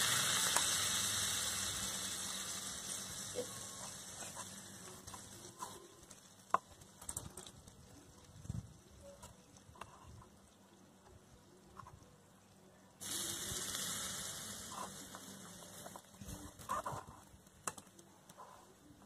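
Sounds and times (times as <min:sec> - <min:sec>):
cheese frying in pan sizzling: 0:00.0 - 0:11.8, 0:12.4 - 0:18.4.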